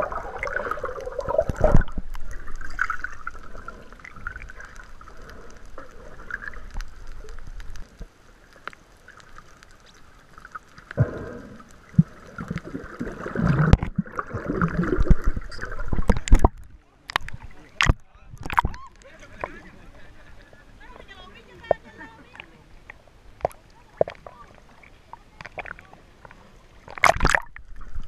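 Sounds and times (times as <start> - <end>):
water sloshing and gurgling: 0.0 - 19.7, 21.0 - 28.0.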